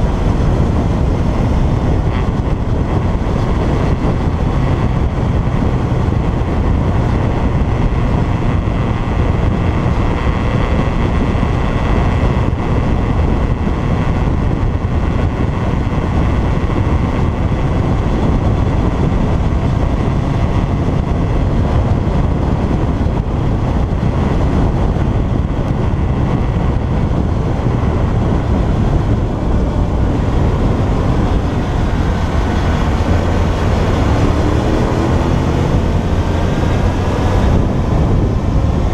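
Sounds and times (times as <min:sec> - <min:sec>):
motorcycle engine running: 0:00.0 - 0:38.9
road noise: 0:00.0 - 0:38.9
wind rush: 0:00.0 - 0:38.9.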